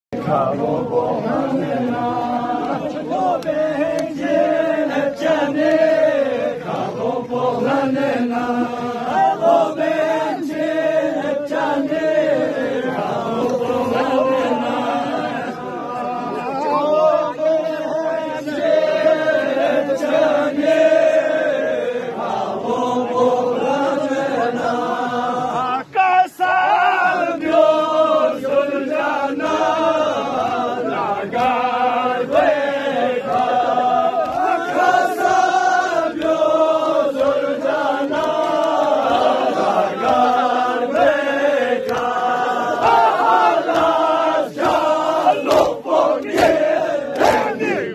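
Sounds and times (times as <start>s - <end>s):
group of voices chanting: 0.2s - 47.9s.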